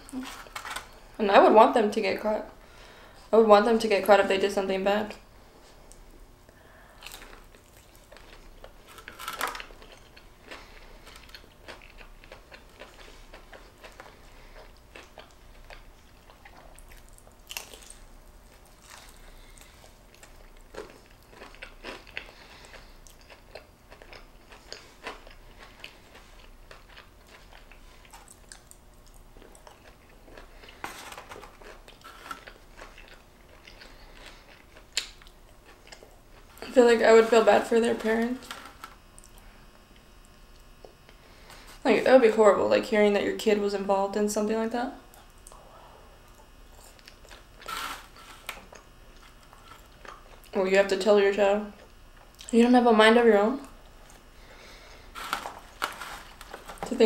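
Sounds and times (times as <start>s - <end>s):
person crunching and chewing food: 0.0s - 1.2s, 5.9s - 41.8s, 45.1s - 50.6s, 51.7s - 52.5s, 53.6s - 57.0s.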